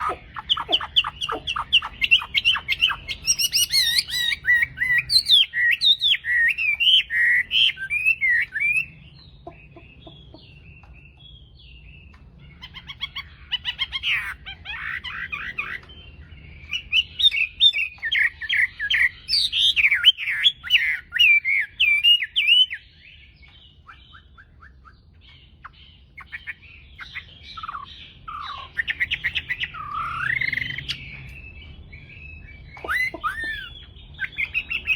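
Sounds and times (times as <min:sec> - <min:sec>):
bird singing whistles and trills: 0:00.0 - 0:34.9.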